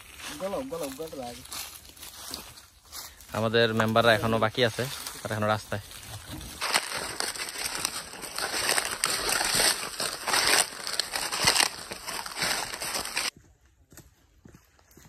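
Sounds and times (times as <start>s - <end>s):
footsteps crunching dry leaves: 0.0s - 13.4s.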